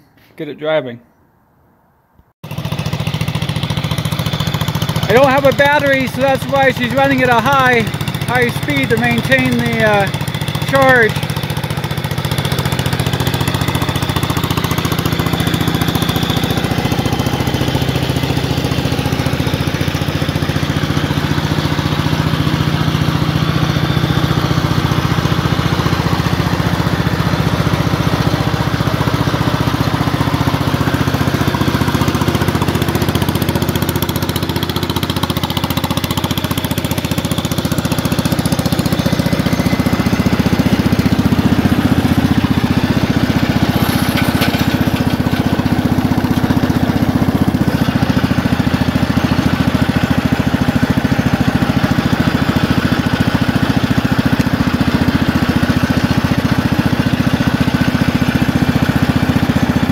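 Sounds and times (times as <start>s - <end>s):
tractor engine running: 2.4s - 59.9s.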